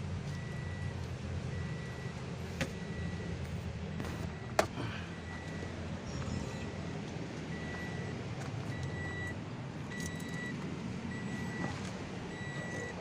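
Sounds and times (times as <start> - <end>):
engine humming: 0.0 - 13.0
vehicle warning beeper: 0.2 - 13.0.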